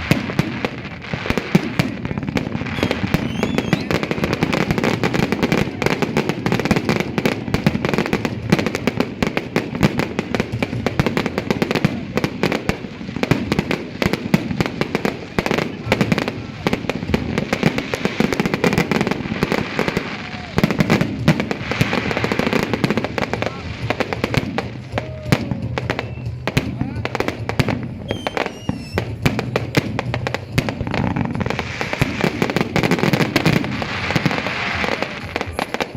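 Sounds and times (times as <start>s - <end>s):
firecrackers crackling: 0.0s - 35.9s.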